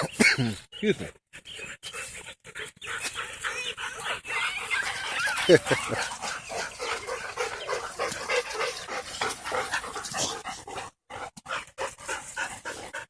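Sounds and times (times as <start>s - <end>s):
dog panting: 1.4s - 13.0s.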